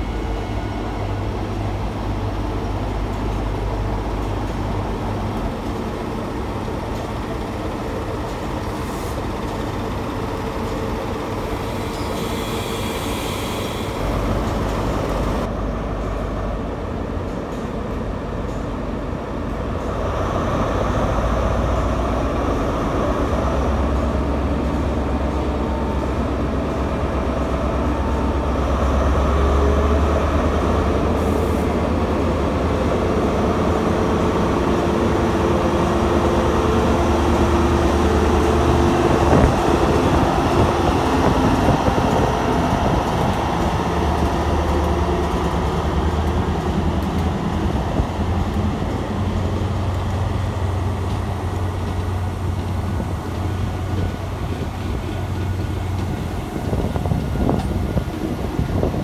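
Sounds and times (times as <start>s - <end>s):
train engine droning: 0.0s - 59.0s.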